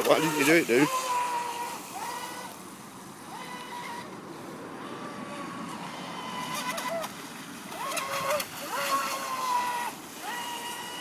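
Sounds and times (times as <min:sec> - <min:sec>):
electric boat motor whining: 0:00.0 - 0:11.0.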